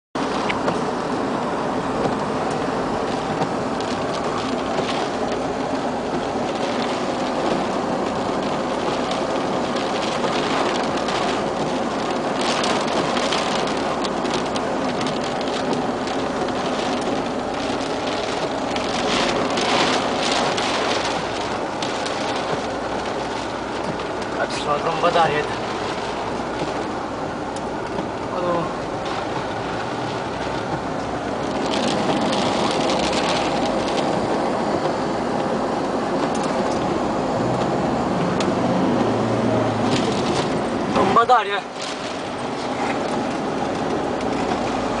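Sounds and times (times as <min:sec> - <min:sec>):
rain hits on glass: 0:00.2 - 0:45.0
storm rain and wind on car: 0:00.2 - 0:45.0.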